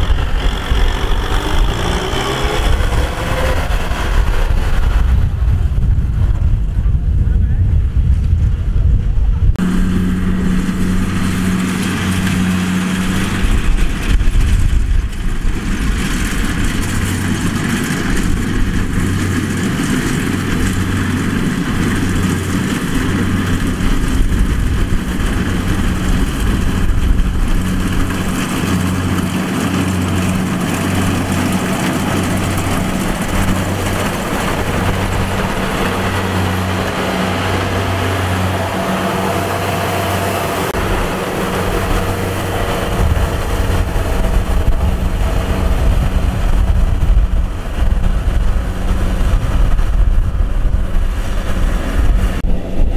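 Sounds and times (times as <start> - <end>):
combine harvester working: 0.0 - 7.7, 9.2 - 52.9.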